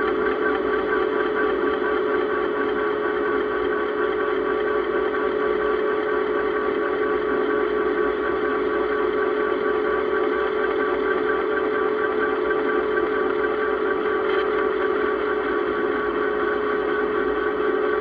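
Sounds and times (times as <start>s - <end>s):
electric bike motor hum: 0.0s - 18.0s.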